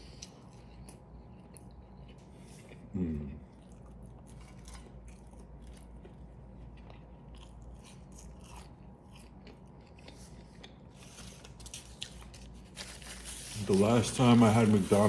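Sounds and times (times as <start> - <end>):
close chewing mouth sounds: 0.0 - 12.7.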